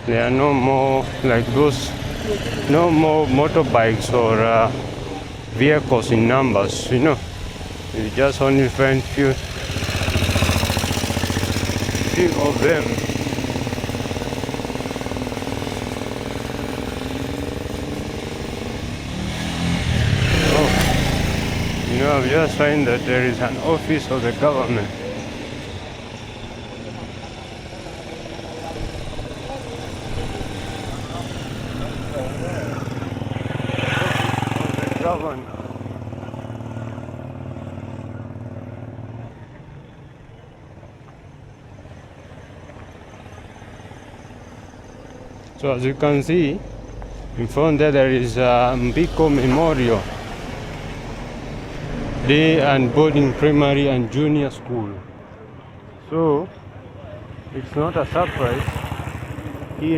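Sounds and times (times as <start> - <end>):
low engine rumble: 0.0 - 59.9
motorcycle engine running: 0.0 - 59.9
street background: 0.0 - 59.9.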